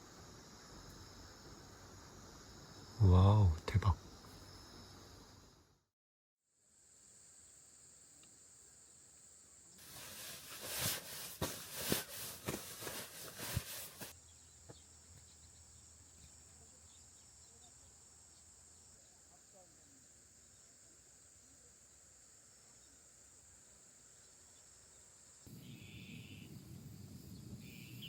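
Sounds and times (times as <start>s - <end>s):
insects chirring: 0.0s - 5.8s, 6.7s - 28.0s.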